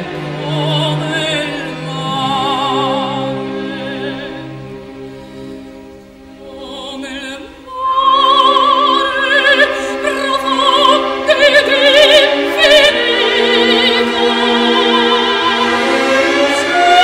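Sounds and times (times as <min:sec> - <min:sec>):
operatic singing with vibrato: 0:00.0 - 0:17.0
orchestral accompaniment: 0:00.0 - 0:17.0.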